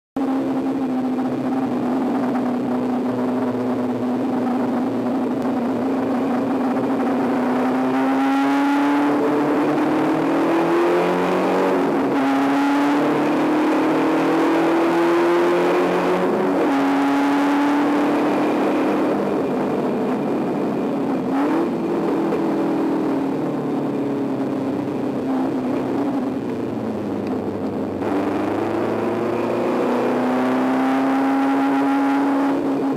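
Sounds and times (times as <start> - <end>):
race car engine revving: 0.2 - 32.9.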